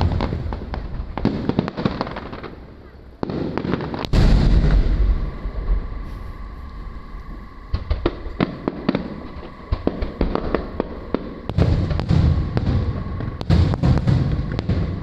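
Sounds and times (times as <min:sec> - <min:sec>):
deep fireworks booms: 0:00.0 - 0:15.0
fireworks bangs and crackles: 0:00.0 - 0:15.0.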